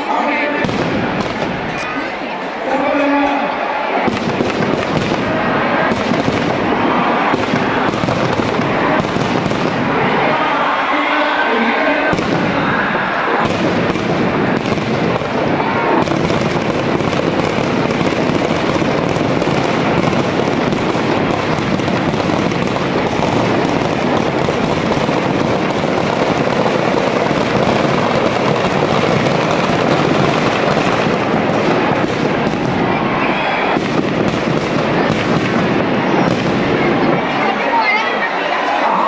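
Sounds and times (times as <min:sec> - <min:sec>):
firecrackers crackling: 0:00.0 - 0:39.0.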